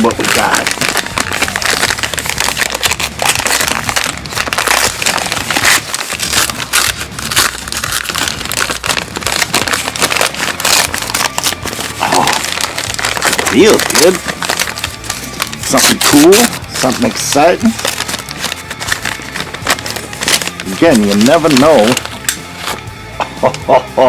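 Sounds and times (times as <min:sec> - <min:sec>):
wrapping paper tearing and crinkling: 0:00.0 - 0:22.9.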